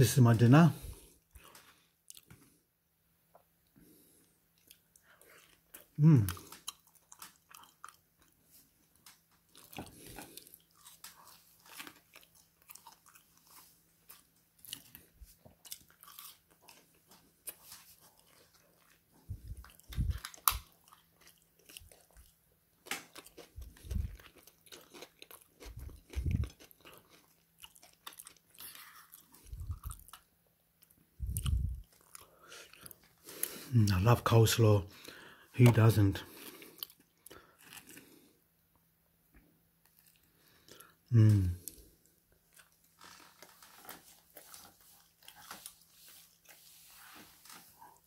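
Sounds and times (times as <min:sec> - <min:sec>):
person crunching and chewing food: 0:00.8 - 0:02.6, 0:03.3 - 0:38.4, 0:39.8 - 0:48.0.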